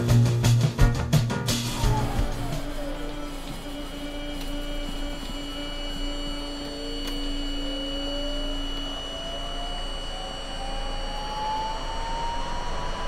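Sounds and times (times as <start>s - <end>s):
train motors whining: 1.6s - 13.0s
steady high tone: 1.7s - 13.0s.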